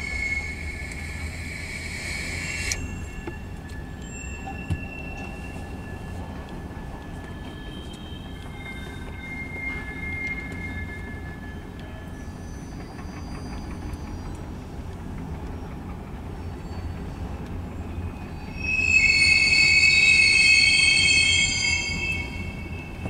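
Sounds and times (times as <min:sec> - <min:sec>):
freight train cars rumbling: 0:00.0 - 0:23.0
train wheel squeal: 0:00.0 - 0:23.0.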